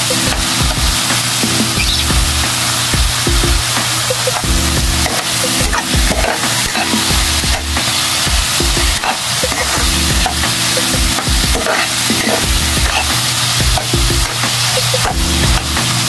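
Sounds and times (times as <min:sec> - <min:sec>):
rice sizzling: 0:00.0 - 0:16.0.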